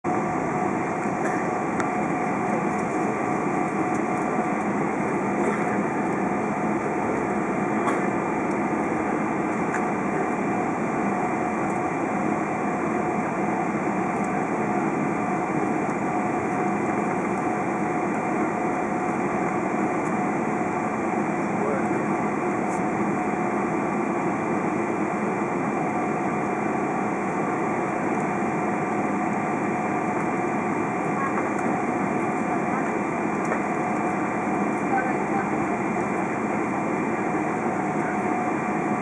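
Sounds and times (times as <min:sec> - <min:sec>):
airplane cabin hum while taxiing: 0:00.1 - 0:39.0
steady whining tones: 0:00.1 - 0:39.0.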